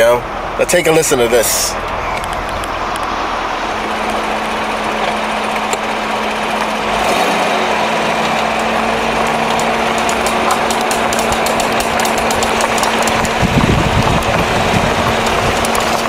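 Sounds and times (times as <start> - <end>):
car engine running quietly: 0.0 - 16.0.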